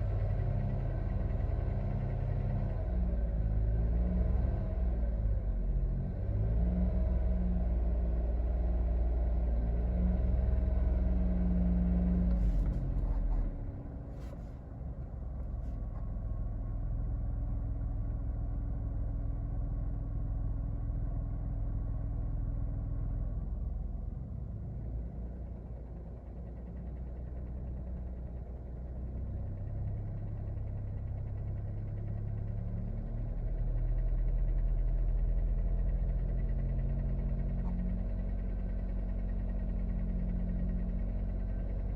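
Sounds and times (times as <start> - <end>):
car driving low rumble: 0.0 - 41.9.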